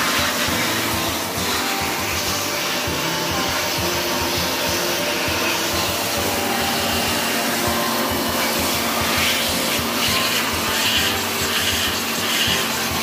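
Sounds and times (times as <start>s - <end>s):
electric air blower running: 0.0s - 13.0s.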